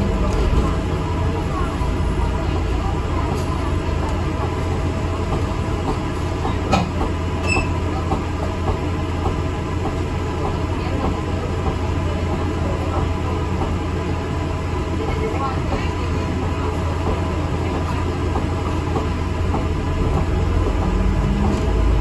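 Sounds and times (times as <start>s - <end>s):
bus running gear drone: 0.0s - 22.0s
rattling inside bus: 0.0s - 22.0s.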